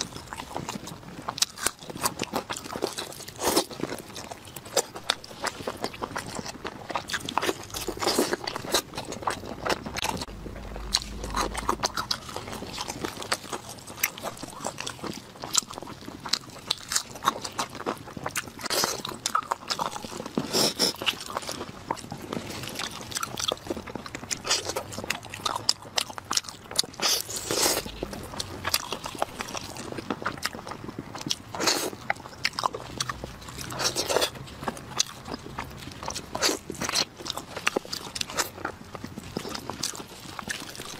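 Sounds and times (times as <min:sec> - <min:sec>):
chewing meat: 0:00.0 - 0:40.9.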